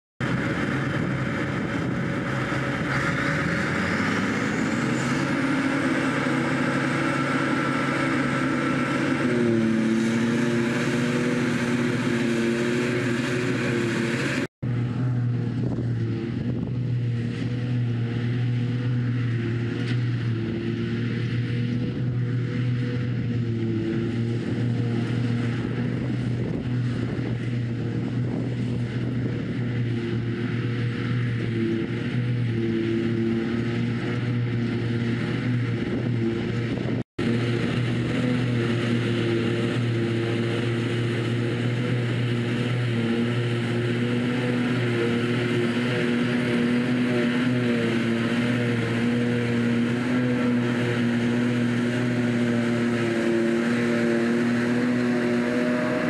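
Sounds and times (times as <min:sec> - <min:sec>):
forage harvester engine drone: 0:00.2 - 0:56.0.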